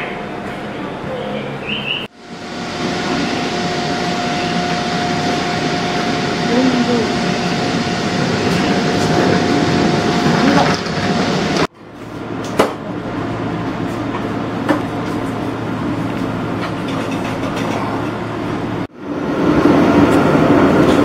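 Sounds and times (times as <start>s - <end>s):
steady whine: 0.0s - 21.0s
train rumbling on rails: 0.0s - 21.0s.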